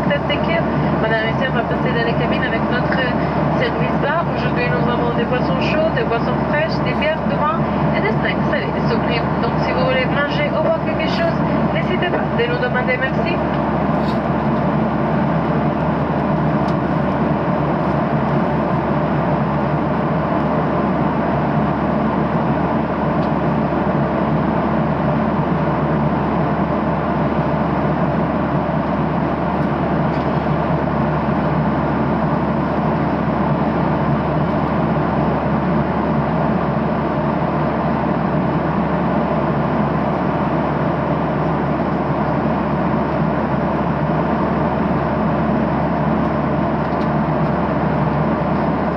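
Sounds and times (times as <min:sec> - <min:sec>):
airliner cabin roar: 0:00.0 - 0:48.9.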